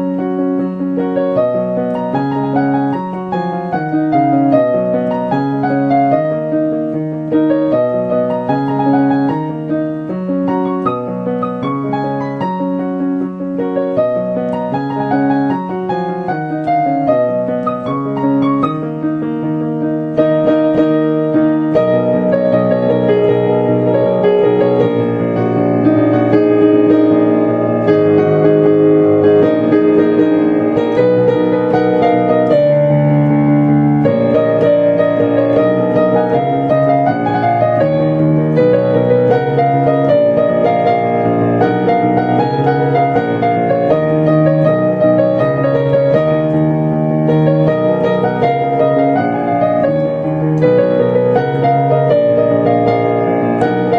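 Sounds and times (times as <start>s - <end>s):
solo piano pop song: 0.0s - 53.9s.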